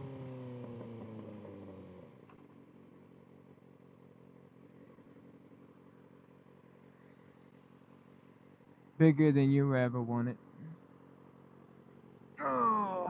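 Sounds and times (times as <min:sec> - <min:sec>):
motorcycle engine idling faintly: 0:00.0 - 0:13.0.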